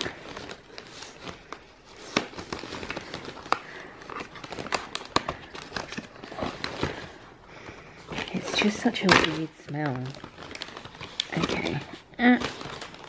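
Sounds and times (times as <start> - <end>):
cardboard and plastic crinkling: 0.0 - 13.0.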